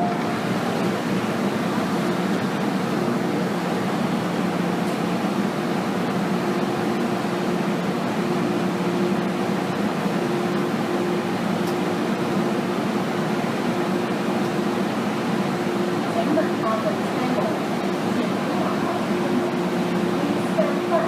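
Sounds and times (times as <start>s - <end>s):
train car interior rumble: 0.0s - 21.0s.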